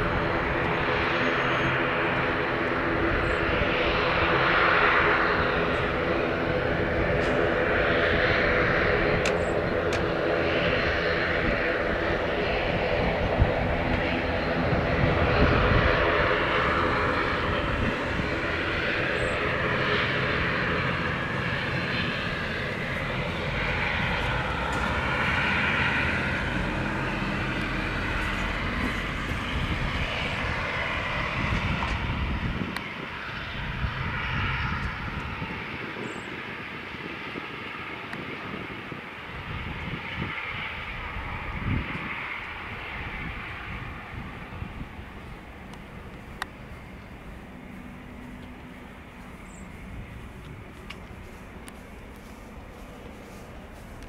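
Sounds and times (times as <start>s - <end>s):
turbofan jet engines rumbling: 0.0s - 54.0s
turboprop airliner taxiing: 0.0s - 54.0s.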